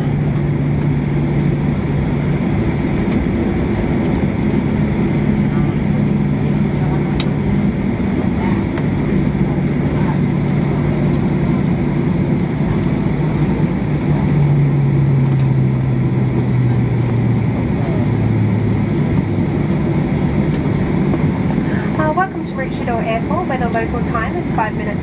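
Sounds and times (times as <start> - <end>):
aircraft cabin engine drone: 0.0 - 25.0
low hum dropping in pitch: 0.0 - 25.0.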